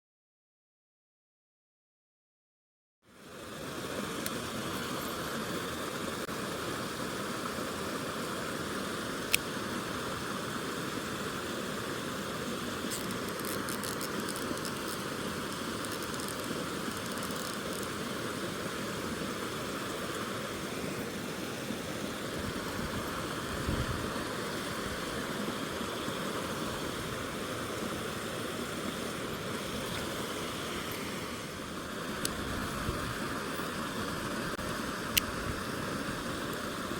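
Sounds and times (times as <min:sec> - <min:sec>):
stream water rushing: 0:03.1 - 0:36.9.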